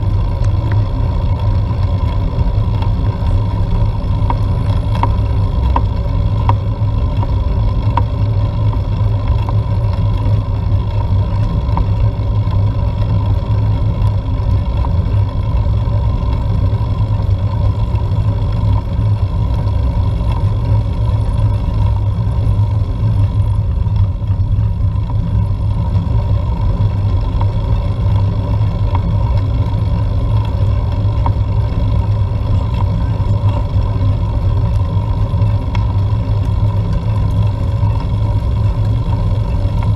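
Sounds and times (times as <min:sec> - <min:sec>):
faint steady hum: 0:00.0 - 0:39.9
wind and road noise rumble: 0:00.0 - 0:39.9.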